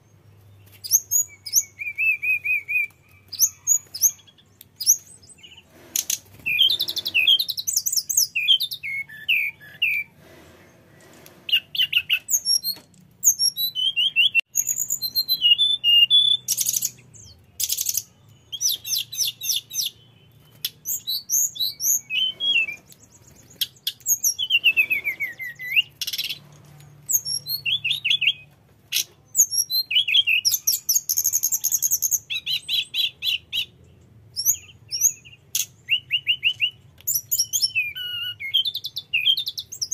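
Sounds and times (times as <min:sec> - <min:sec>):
bird singing whistles and trills: 0:00.6 - 0:10.2, 0:11.5 - 0:26.4, 0:27.1 - 0:33.7, 0:34.3 - 0:39.9.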